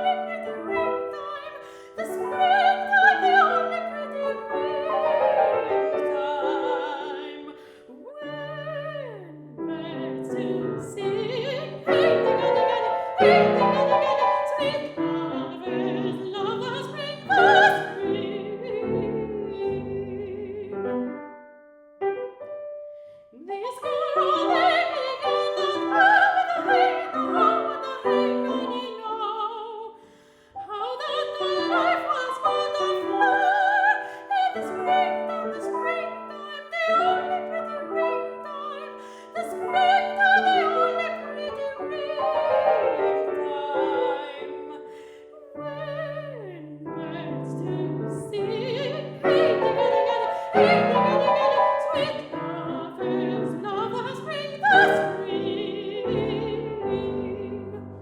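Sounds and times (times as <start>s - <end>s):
soprano singing with vibrato: 0.0s - 21.2s, 23.3s - 58.0s
piano accompaniment: 0.0s - 58.0s.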